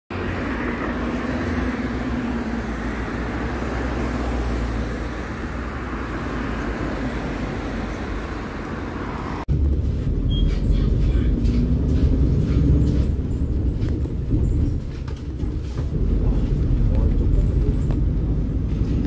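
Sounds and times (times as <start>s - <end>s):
cars driving past: 0.1s - 19.0s.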